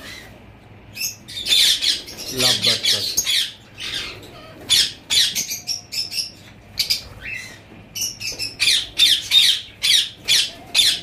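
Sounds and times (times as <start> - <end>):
lovebirds squawking: 0.0 - 11.0.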